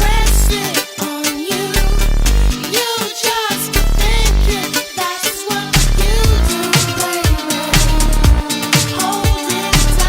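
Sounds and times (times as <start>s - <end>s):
music with bass beat and melody: 0.0s - 10.0s.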